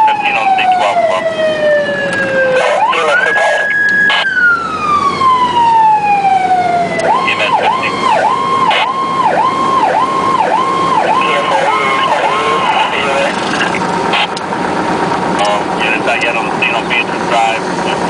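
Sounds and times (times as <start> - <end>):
electronic siren wailing and yelping: 0.0 - 14.5
road noise: 0.0 - 18.0.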